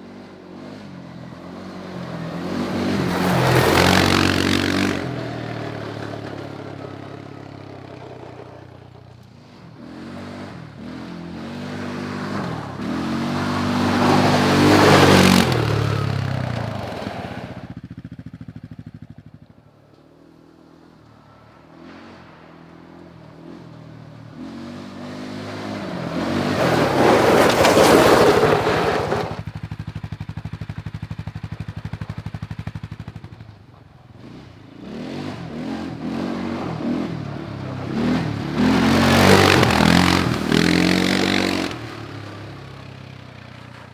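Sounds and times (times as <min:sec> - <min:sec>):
atv engine revving past: 0:00.0 - 0:19.1, 0:20.8 - 0:43.9.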